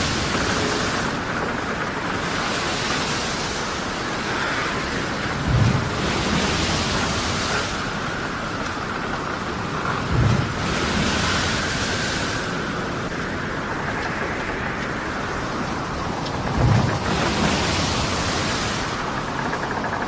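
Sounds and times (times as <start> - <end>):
rain: 0.0 - 20.0
waves: 0.0 - 20.0.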